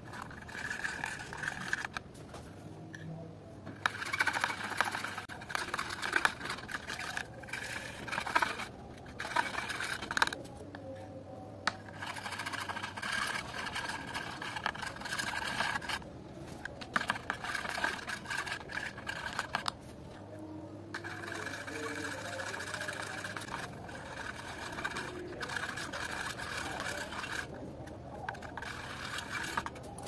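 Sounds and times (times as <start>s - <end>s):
palette knife scraping wet paint: 0.0s - 2.0s, 3.8s - 10.4s, 11.7s - 19.8s, 20.9s - 30.0s.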